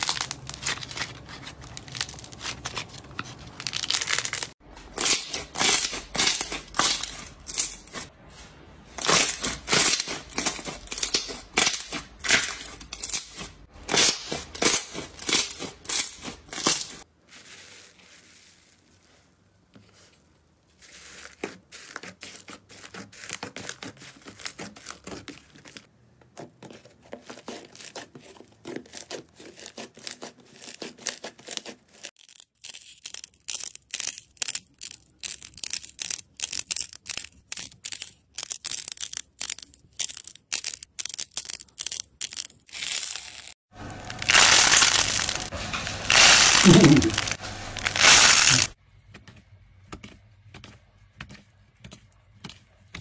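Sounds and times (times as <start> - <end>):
slime crackling and squishing: 0.0 - 8.1, 9.0 - 48.8.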